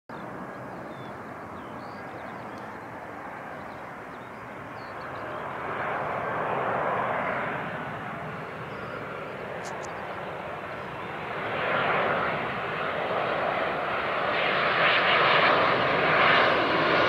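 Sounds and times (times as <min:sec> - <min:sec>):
airliner jet engines: 0:00.1 - 0:17.0.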